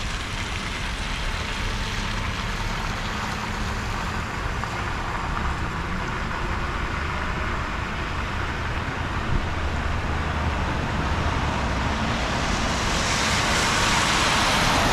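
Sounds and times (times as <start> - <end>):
car tyres swishing through water: 0.0 - 14.9
road rumble and hiss: 0.0 - 14.9.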